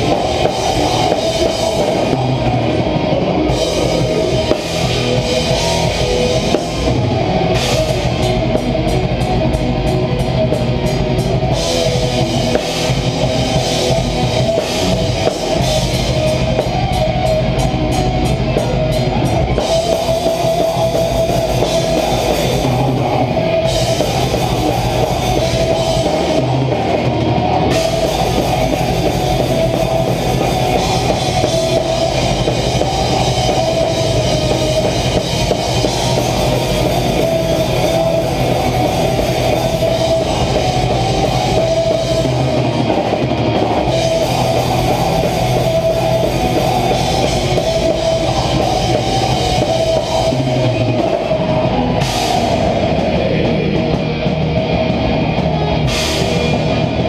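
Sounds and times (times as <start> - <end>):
heavy metal band playing: 0.0 - 57.0
loud drums and cymbals: 0.0 - 57.0.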